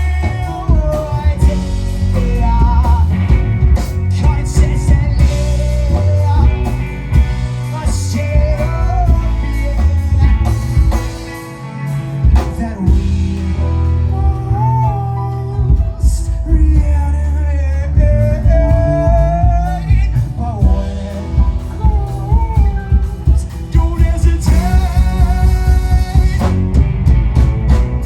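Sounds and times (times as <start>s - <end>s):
electric bass line: 0.0s - 28.0s
live rock band playing: 0.0s - 28.0s.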